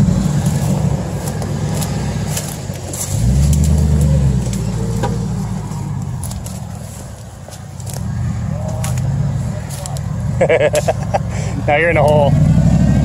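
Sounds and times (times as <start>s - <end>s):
pickup truck engine revving: 0.0s - 13.0s.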